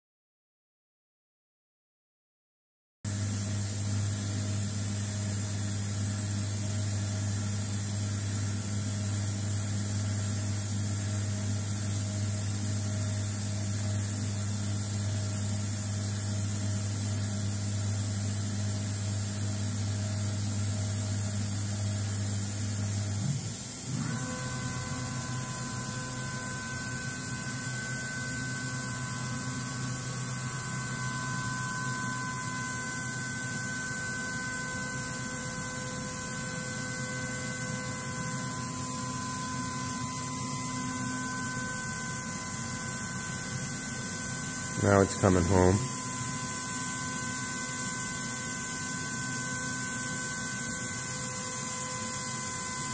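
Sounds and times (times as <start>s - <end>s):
machine high whine: 3.1s - 52.9s
machine low electrical hum: 3.1s - 52.9s.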